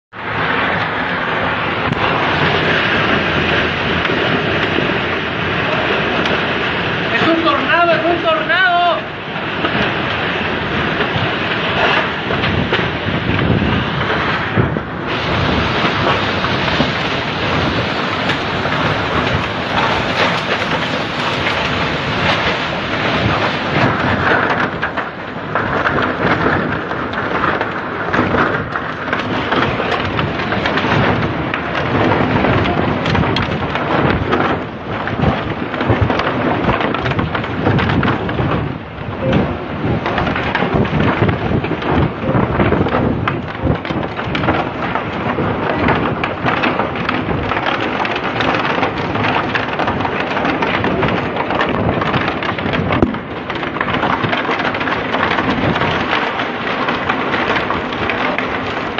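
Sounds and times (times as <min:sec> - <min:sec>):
strong wind buffeting microphone: 0:00.1 - 0:58.9.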